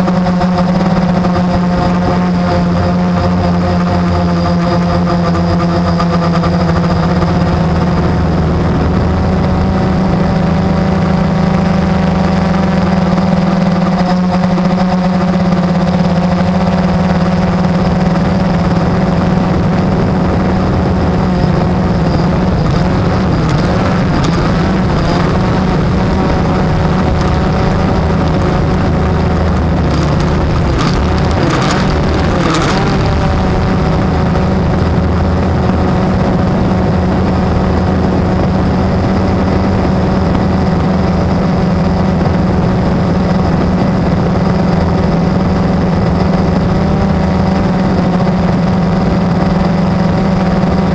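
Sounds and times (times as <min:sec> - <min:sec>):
quadcopter motors humming: 0:00.0 - 0:50.9.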